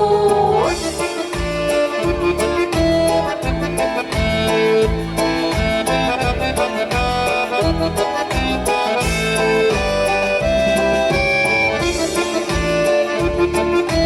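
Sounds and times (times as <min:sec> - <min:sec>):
accordion melody: 0:00.0 - 0:14.0
pulsing bass beat: 0:00.0 - 0:14.0.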